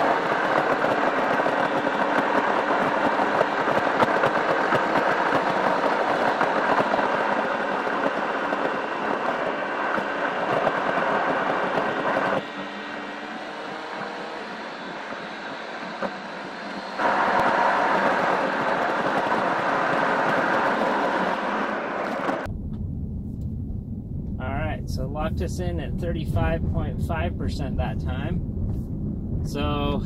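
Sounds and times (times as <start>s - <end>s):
road and tyre noise in car: 0.0s - 30.0s.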